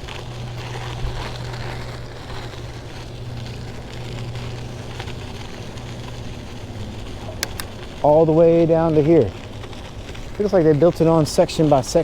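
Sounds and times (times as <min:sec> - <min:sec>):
bicycle tyres rolling: 0:00.0 - 0:12.0.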